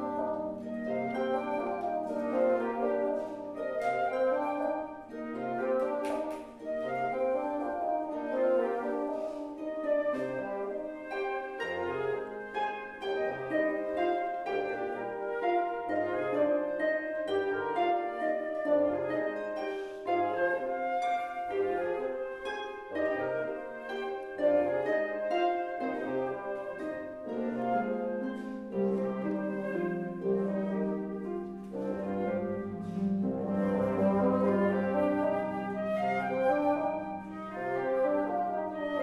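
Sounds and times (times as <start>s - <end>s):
bassoon melody: 0.0s - 39.0s
flute melody: 0.0s - 39.0s
plucked harp notes: 0.0s - 39.0s.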